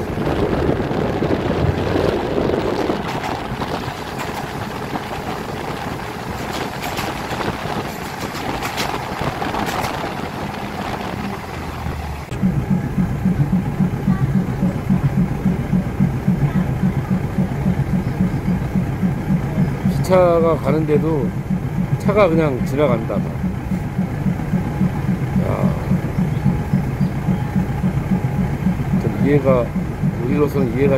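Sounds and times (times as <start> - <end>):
pulsing low throb: 0.0 - 30.9
train rumble and rattle: 0.0 - 30.9.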